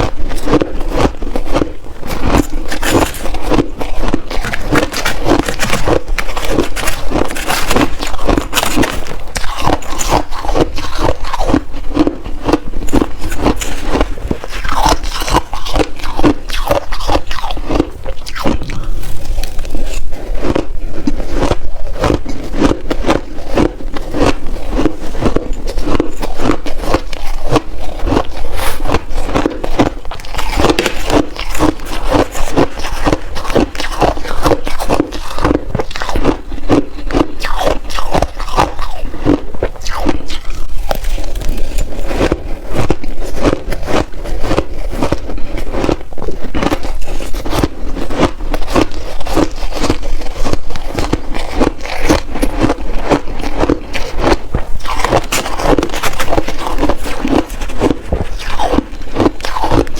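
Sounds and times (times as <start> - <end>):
crunching shaved ice: 0.0 - 59.9.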